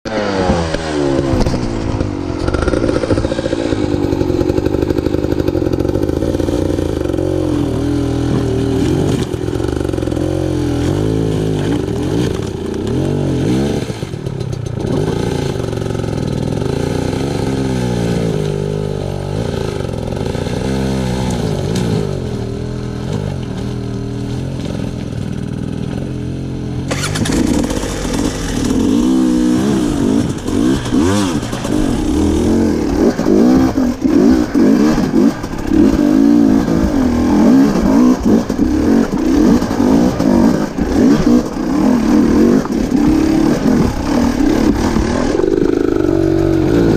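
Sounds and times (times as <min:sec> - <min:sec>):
dirt bike engine revving: 0:00.1 - 0:46.9.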